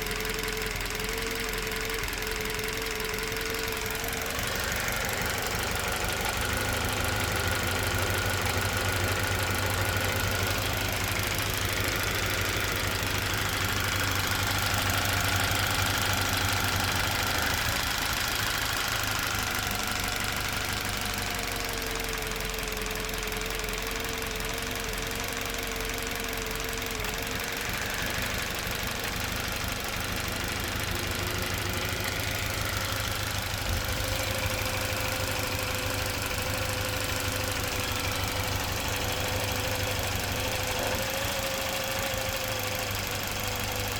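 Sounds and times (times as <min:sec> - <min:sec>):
car engine running: 0:00.0 - 0:43.9.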